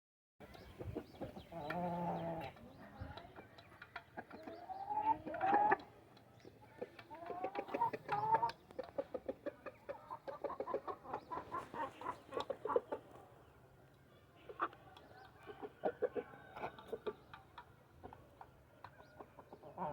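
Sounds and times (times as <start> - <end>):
poultry clucking: 0.4 - 13.7, 14.4 - 19.9.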